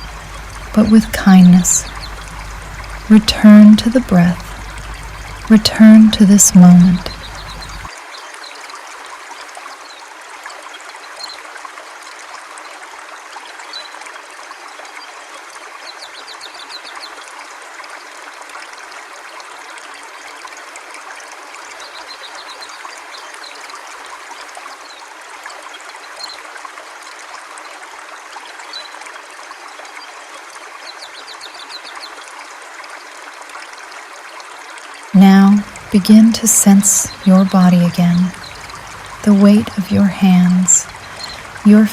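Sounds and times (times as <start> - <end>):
river water flowing over stones: 0.0 - 41.9.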